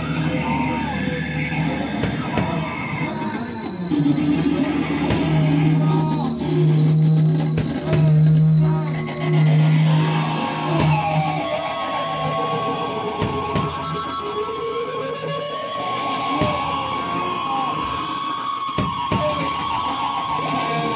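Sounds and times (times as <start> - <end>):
rock band playing live: 0.0 - 20.9
steady high whine: 0.0 - 20.9.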